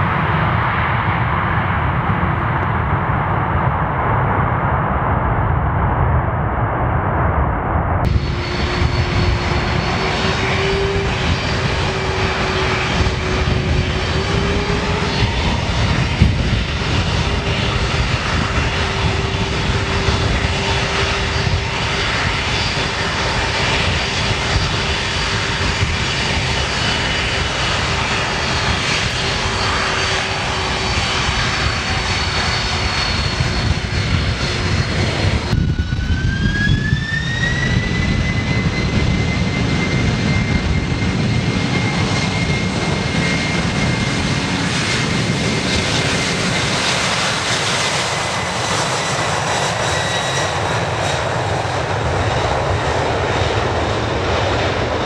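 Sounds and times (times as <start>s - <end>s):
jet engine whine rising: 0.0s - 55.0s
jet engines roaring: 0.0s - 55.0s.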